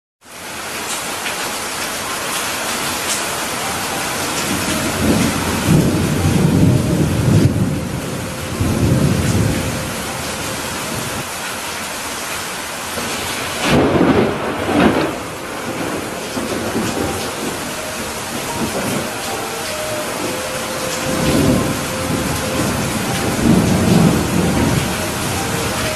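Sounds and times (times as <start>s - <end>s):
heavy rain pouring: 0.2s - 25.9s
thunder rumbling: 3.2s - 11.3s, 13.0s - 25.9s.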